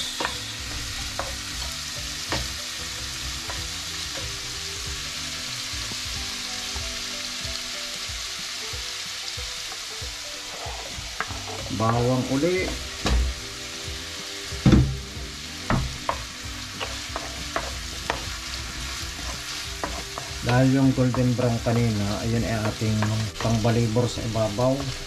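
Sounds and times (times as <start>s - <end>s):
ginger sizzling in a frying pan: 0.0s - 25.0s.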